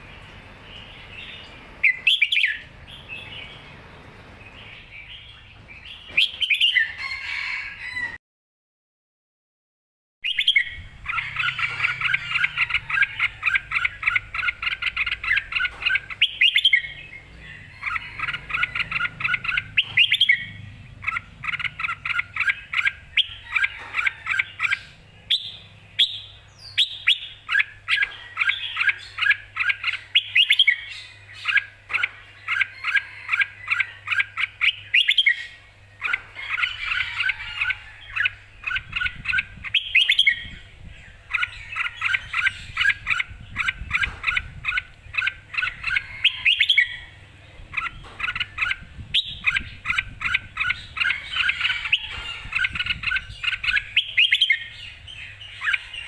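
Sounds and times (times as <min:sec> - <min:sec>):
bird chirping song: 0:00.0 - 0:08.0, 0:10.2 - 0:56.0.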